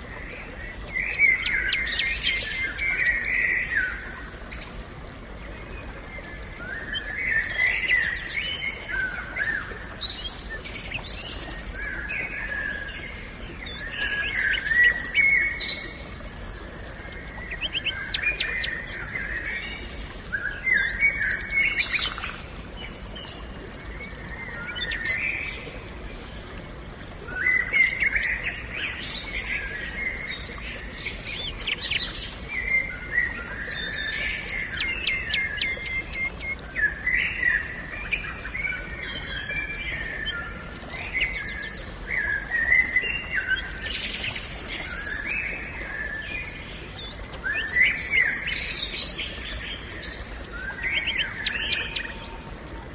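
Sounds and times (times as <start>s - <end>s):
birds singing and chirping: 0.1s - 4.7s, 6.2s - 52.4s.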